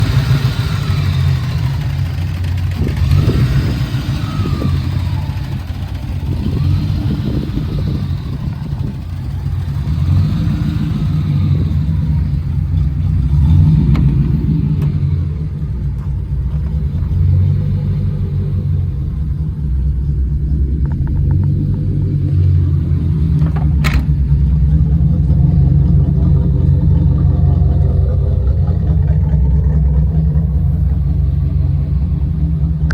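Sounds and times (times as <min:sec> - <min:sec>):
car engine rumbling and revving: 0:00.0 - 0:32.9.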